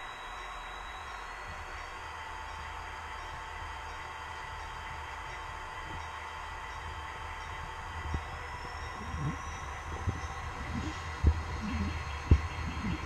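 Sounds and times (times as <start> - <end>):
model train whirring on track: 0.0 - 13.0.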